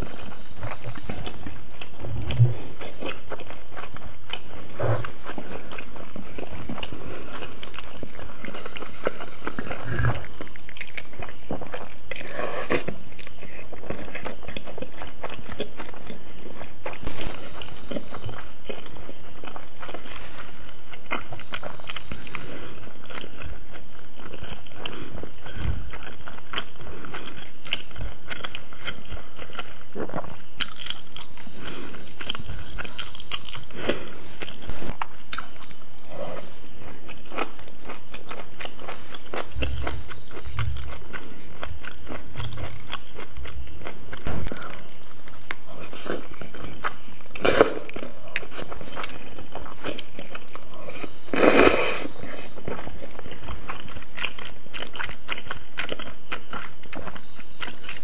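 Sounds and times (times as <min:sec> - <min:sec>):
chewing with mouth clicks: 0:00.0 - 0:58.0.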